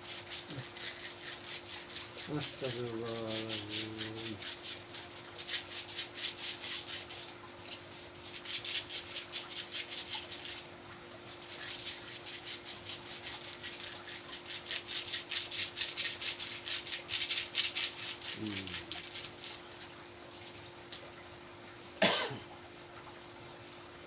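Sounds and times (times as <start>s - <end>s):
hands rubbing bare skin: 0.0s - 10.6s, 11.3s - 21.0s.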